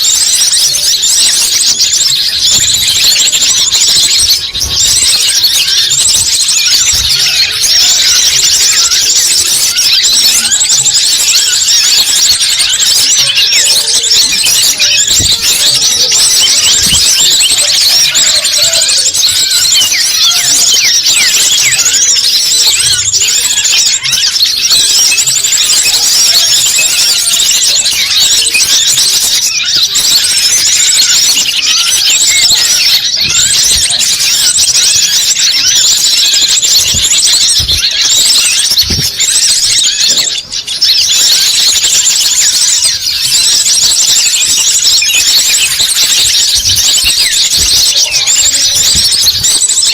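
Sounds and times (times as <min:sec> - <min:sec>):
chorus of small birds chirping: 0:00.0 - 0:49.9.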